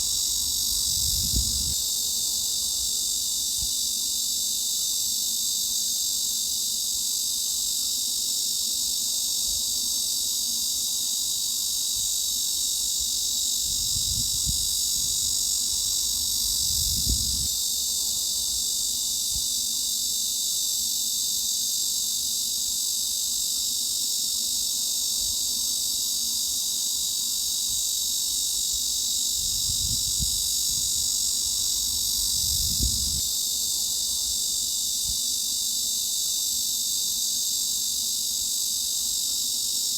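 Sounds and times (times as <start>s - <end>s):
cicada chorus buzzing: 0.0s - 39.9s.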